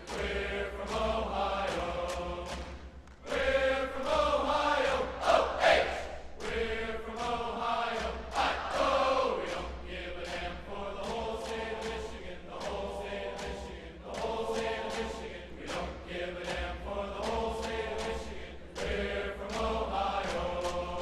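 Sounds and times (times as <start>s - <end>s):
chant-like singing: 0.0s - 21.0s.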